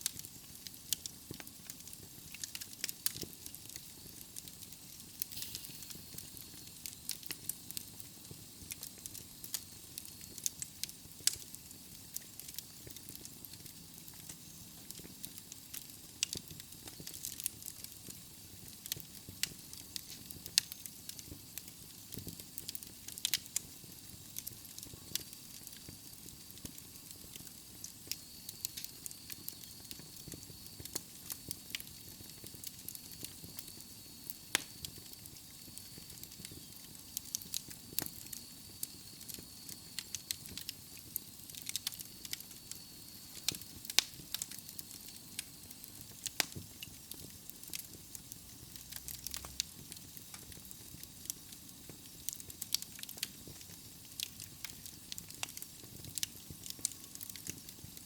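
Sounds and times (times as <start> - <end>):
logs crackling and popping: 0.0 - 58.0
soft fire hiss: 0.0 - 58.0.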